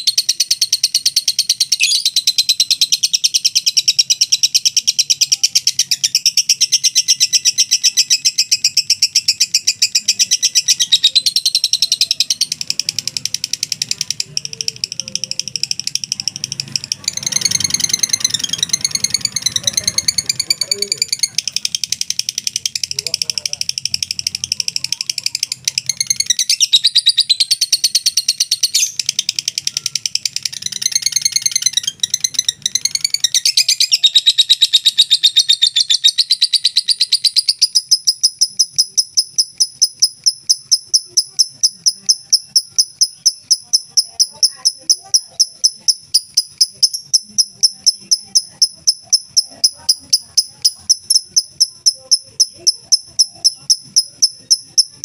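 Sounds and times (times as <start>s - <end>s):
lovebird chattering trill: 0.0s - 55.0s.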